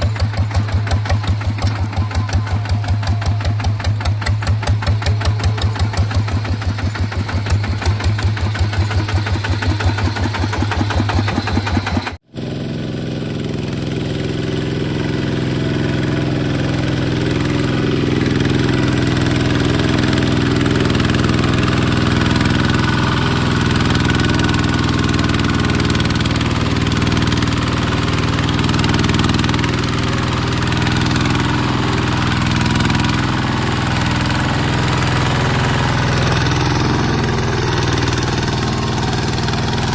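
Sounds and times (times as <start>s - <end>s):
bulldozer engine running: 0.0s - 39.9s.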